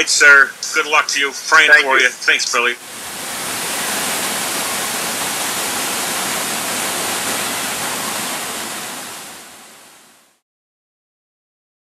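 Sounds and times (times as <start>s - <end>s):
static hiss: 0.0s - 10.4s.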